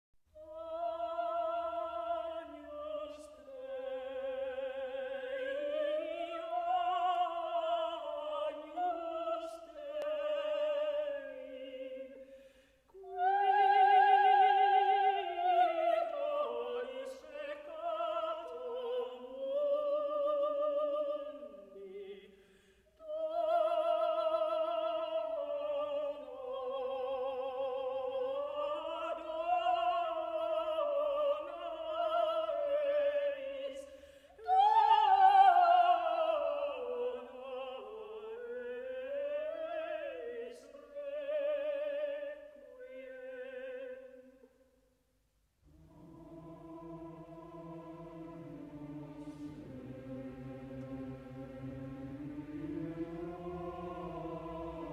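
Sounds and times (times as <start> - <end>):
operatic singing with vibrato: 0.4 - 44.6, 45.7 - 54.9.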